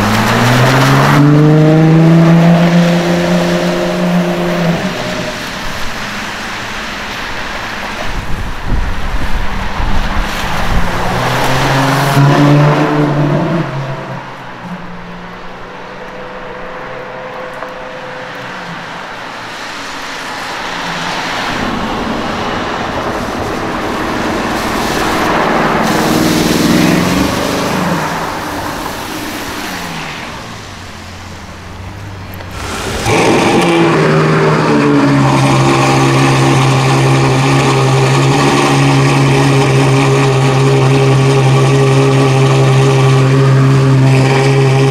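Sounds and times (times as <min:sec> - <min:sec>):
sports car engines passing: 0:00.0 - 0:44.9.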